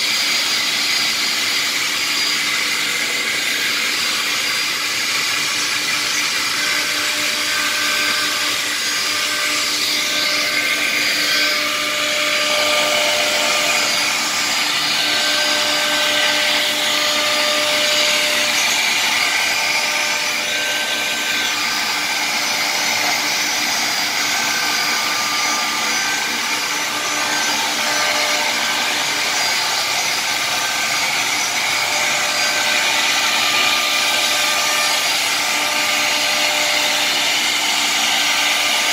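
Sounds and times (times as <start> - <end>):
cnc router cutting wood: 0.0 - 38.9.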